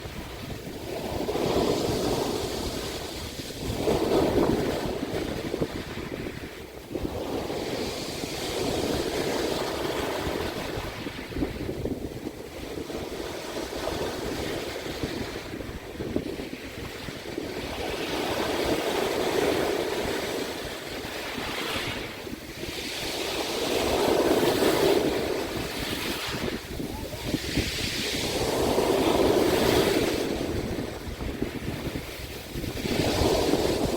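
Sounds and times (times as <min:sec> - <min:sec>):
sea waves breaking on shore: 0:00.0 - 0:33.9.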